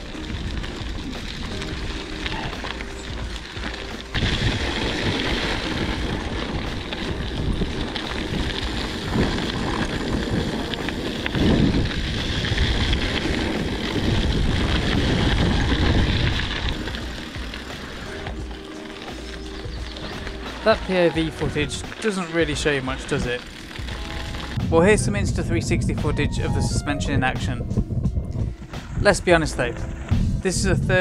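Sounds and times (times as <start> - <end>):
wind buffeting microphone: 0.0 - 18.6, 19.3 - 31.0
bike rattling: 0.0 - 31.0
bike tyre rumble on rough ground: 0.0 - 31.0.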